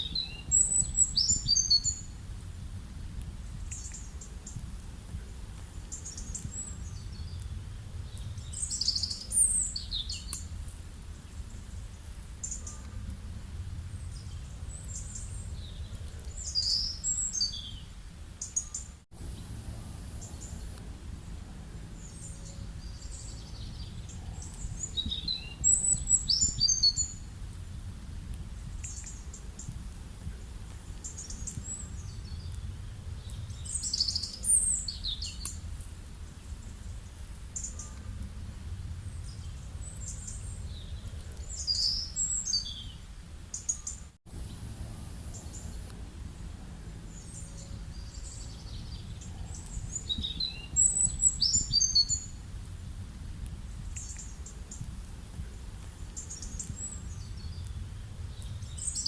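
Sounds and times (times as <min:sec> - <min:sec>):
small birds chirping: 0:00.0 - 0:53.0, 0:53.7 - 0:59.0
low rumble of outdoor ambience: 0:00.0 - 0:59.0.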